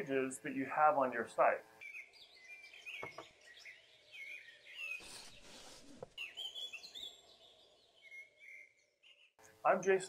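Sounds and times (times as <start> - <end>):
small birds chirping: 1.2 - 10.0.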